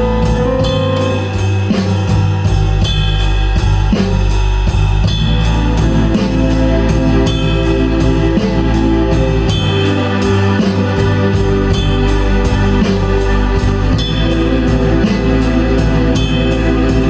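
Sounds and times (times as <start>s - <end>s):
blues-rock band playing: 0.0s - 4.4s, 5.0s - 17.0s.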